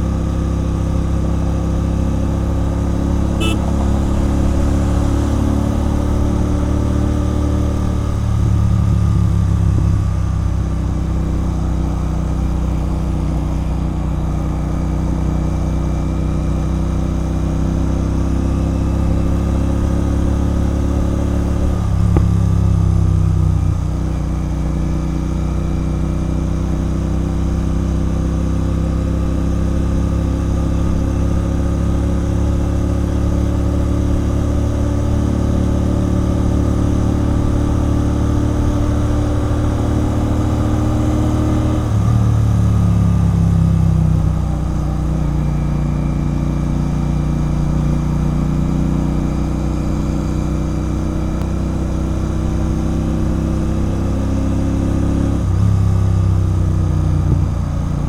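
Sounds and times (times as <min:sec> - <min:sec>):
motorcycle exhaust while riding: 0:00.0 - 0:58.0.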